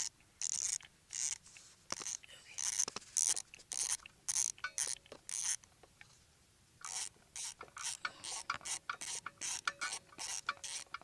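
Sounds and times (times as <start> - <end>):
ratchet wrench clicking: 0.0 - 5.6, 6.8 - 11.0.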